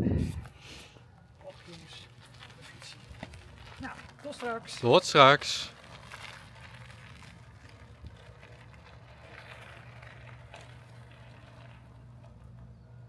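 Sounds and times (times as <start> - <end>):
bike tyres crunching on gravel: 1.4 - 12.9.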